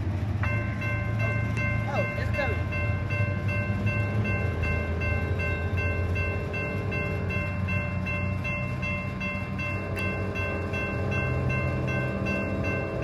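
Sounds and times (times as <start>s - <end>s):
freight train rumbling: 0.0s - 13.0s
railroad crossing bell ringing: 0.0s - 13.0s.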